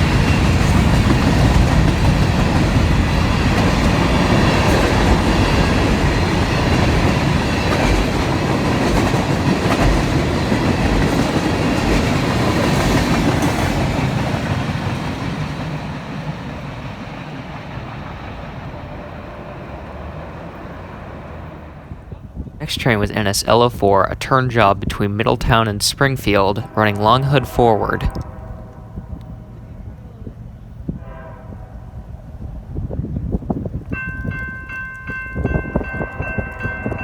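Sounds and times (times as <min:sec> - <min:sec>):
freight train rail rumble: 0:00.0 - 0:37.0.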